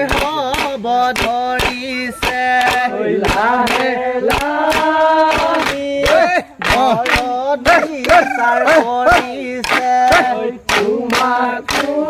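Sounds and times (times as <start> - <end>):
sharp percussive beats: 0.0 - 11.9
group singing folk song in unison: 0.0 - 12.0.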